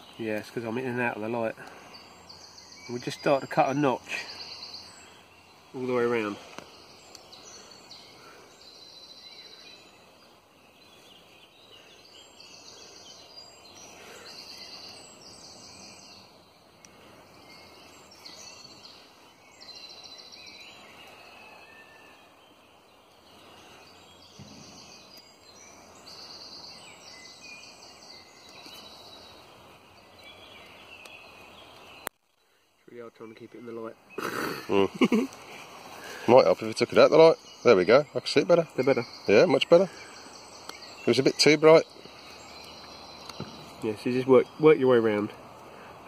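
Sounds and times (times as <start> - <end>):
steady outdoor hiss: 0.0 - 46.0.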